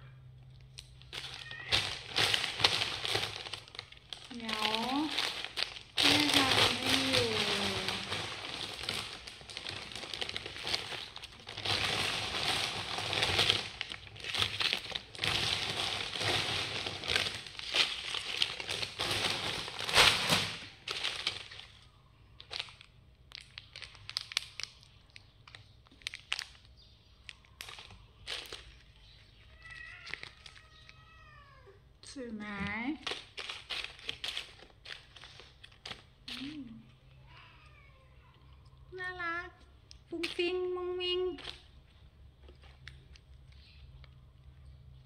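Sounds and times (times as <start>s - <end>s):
plastic sweet wrappers crinkling: 0.4s - 37.2s, 38.2s - 45.0s.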